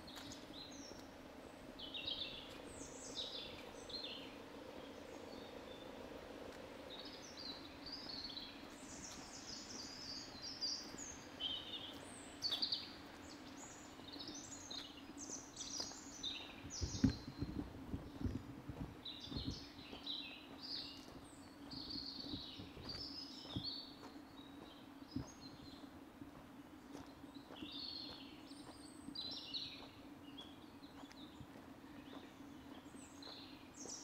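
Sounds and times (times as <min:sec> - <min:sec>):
faint steady background noise: 0:00.0 - 0:34.0
songbirds chirping and trilling: 0:00.0 - 0:34.0.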